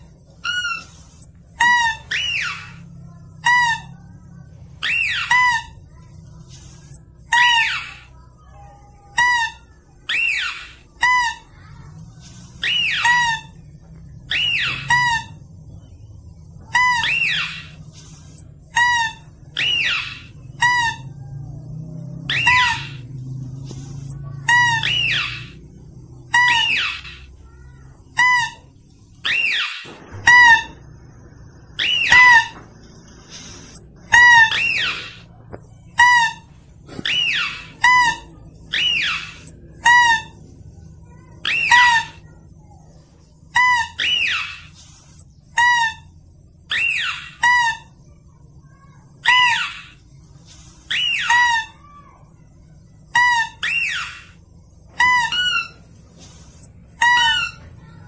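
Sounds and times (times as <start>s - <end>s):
squeaky lure calls: 0.1s - 21.2s, 22.2s - 23.1s, 23.7s - 48.1s, 48.8s - 58.0s.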